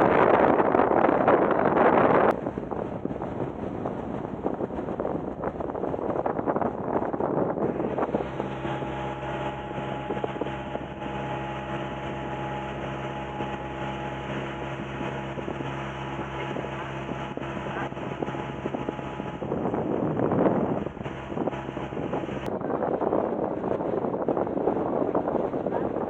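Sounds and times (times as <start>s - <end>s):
boat engine humming: 0.0s - 26.0s
wind buffeting microphone: 0.0s - 26.0s.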